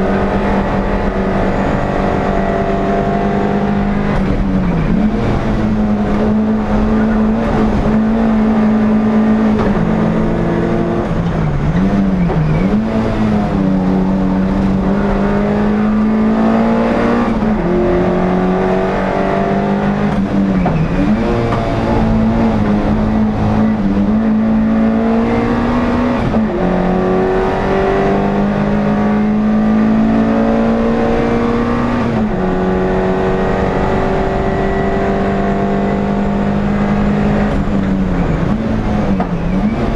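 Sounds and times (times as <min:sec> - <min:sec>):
race car engine under load: 0:00.0 - 0:39.9.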